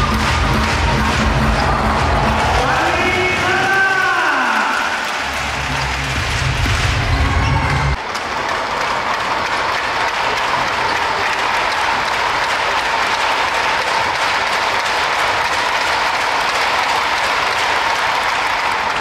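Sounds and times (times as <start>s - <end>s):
crowd clapping: 0.0s - 19.0s.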